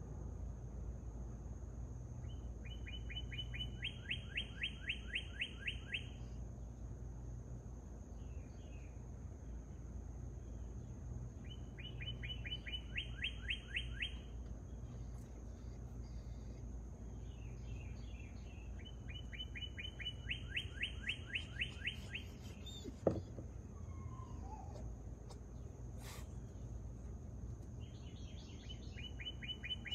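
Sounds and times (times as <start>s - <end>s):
bird singing: 2.2s - 6.9s, 8.0s - 29.9s.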